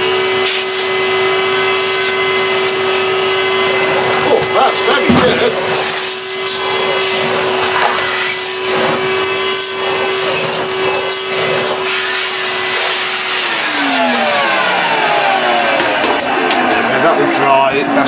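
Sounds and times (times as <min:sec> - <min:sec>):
vacuum cleaner motor whine: 0:00.0 - 0:18.0
vacuum motor spinning down: 0:00.0 - 0:18.0.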